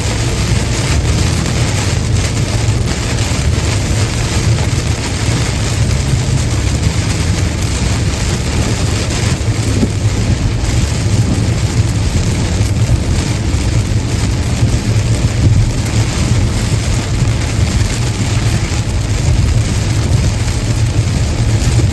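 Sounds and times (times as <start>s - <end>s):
rain and spray hiss: 0.0s - 21.9s
tyres and engine rumble: 0.0s - 21.9s.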